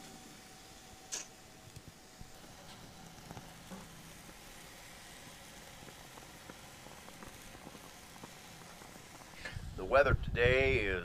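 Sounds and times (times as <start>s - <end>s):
steaks sizzling on a grill: 0.0s - 10.9s.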